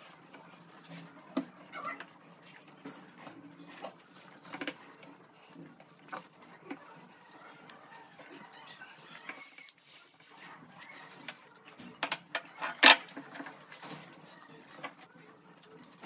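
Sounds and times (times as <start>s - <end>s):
people chewing fried food: 0.0s - 16.0s.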